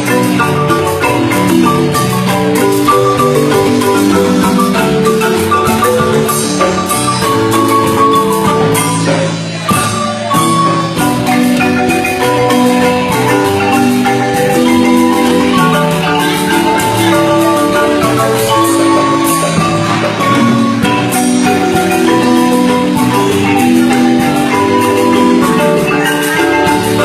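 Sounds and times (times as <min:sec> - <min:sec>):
marimba music: 0:00.0 - 0:27.0.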